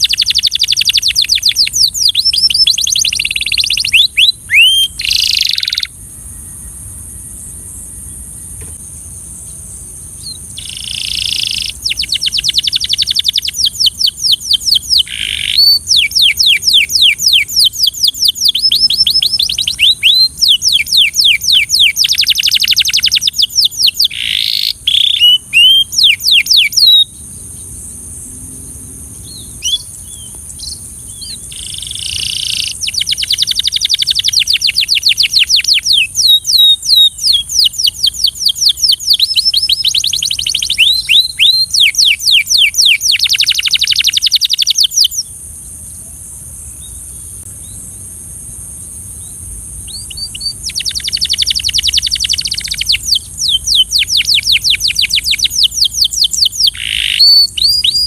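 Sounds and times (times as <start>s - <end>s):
canary singing trills: 0.0s - 6.8s, 9.4s - 27.7s, 29.1s - 45.3s, 49.2s - 58.0s
steady high-pitched hiss: 0.0s - 58.0s.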